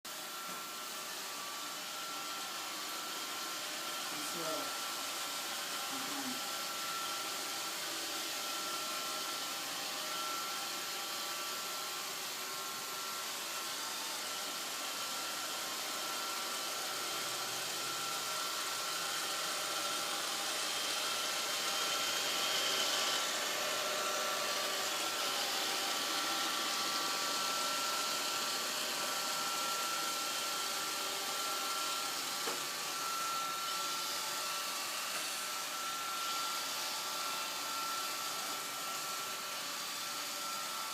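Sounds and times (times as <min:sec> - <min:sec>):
robot vacuum running: 0:00.1 - 0:40.9.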